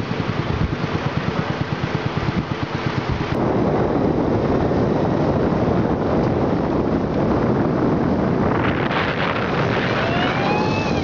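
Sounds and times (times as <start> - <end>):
small boat engine running: 0.0 - 11.0
wind rushing over microphone: 0.0 - 11.0.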